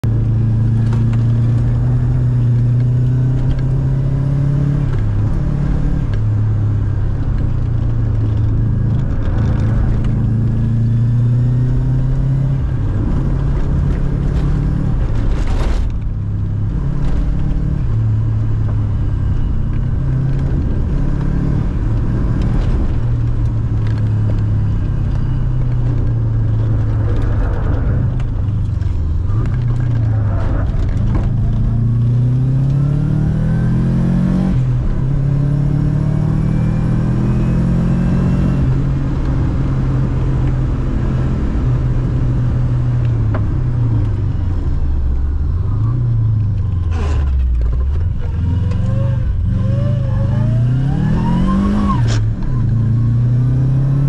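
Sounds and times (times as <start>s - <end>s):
car engine revving: 0.0s - 44.4s, 45.2s - 54.0s.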